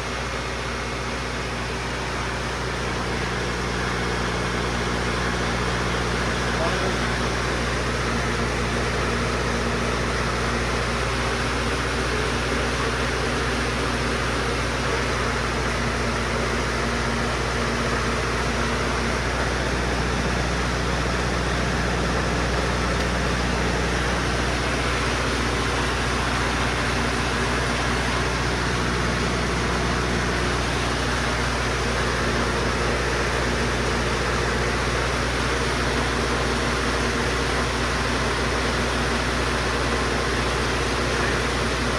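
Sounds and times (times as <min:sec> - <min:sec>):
low machine hum: 0:00.0 - 0:41.9.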